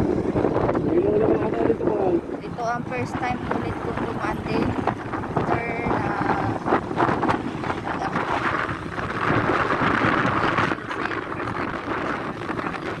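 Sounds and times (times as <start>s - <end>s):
rumbling road and vehicle noise: 0.0s - 13.0s
wind rushing over microphone: 0.0s - 13.0s.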